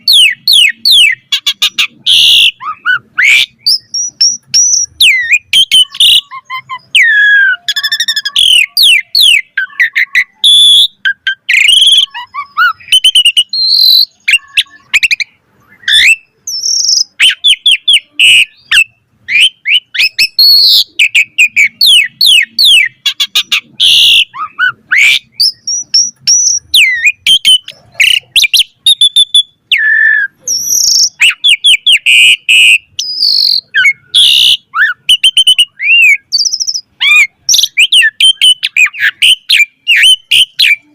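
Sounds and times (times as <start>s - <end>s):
starling song: 0.0s - 40.9s.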